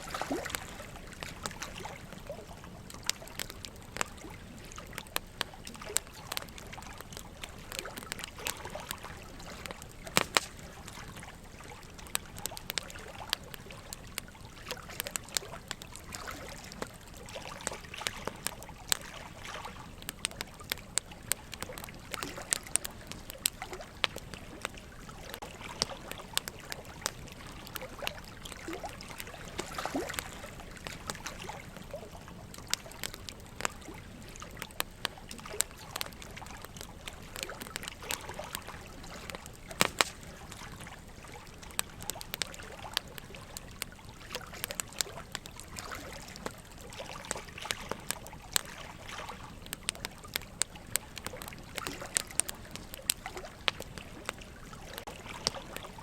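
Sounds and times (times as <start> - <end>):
running water trickling: 0.0 - 56.0
wood fire crackling: 0.0 - 56.0.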